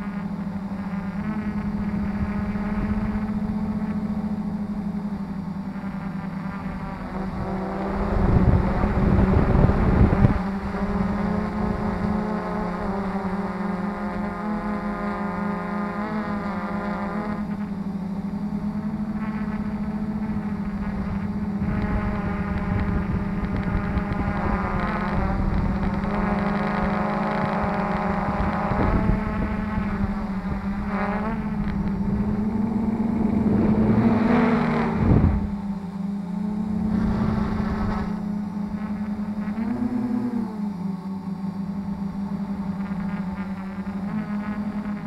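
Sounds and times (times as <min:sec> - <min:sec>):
drone motors whirring: 0:00.0 - 0:45.0
wind rumble on microphone: 0:00.0 - 0:45.0.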